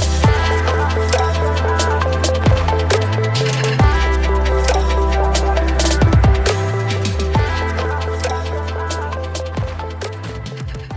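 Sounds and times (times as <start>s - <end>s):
deep bass line: 0.0s - 10.9s
regular electronic beat: 0.0s - 10.9s
steady synth tones: 0.0s - 10.9s.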